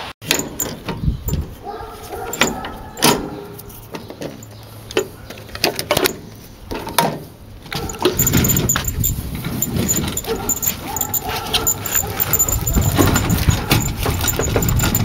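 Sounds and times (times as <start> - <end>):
knocks and clatter: 0.2 - 1.5, 3.9 - 15.0.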